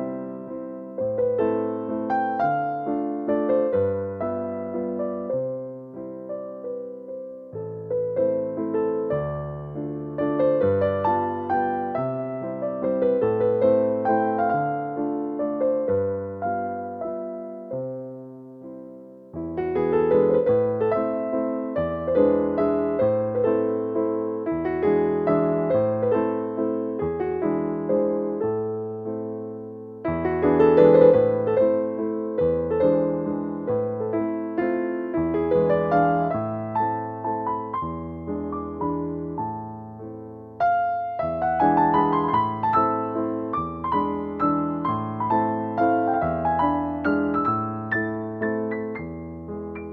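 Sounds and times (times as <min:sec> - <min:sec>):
slow piano music: 0:00.0 - 0:49.9.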